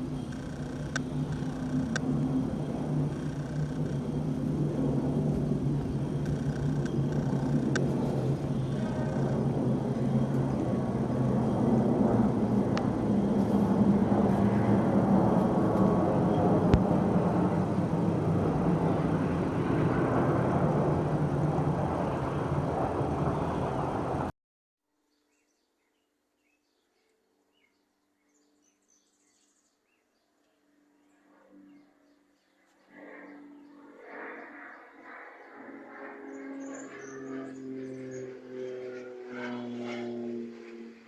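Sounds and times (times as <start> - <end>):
aircraft engine rumble: 0.0 - 24.4, 30.7 - 41.0.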